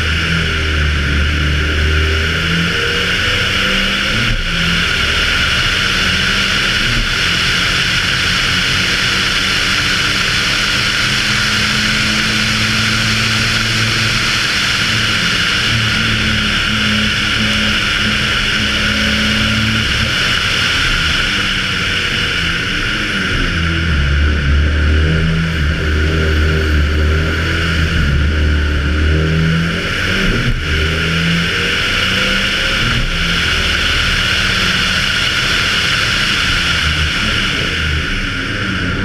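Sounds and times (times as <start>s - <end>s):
rally car engine racing: 0.0s - 39.0s.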